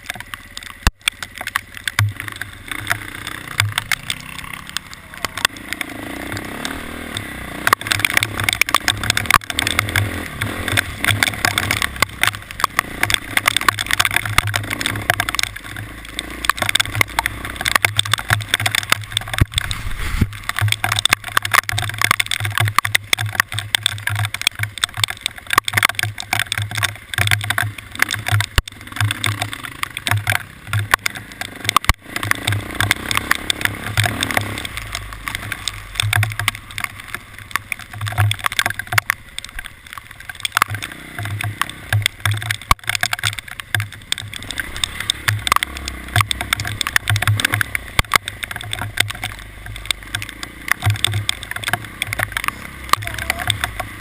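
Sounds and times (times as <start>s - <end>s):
patter of sharp ticks: 0.0s - 54.0s
vehicle moving: 0.0s - 54.0s.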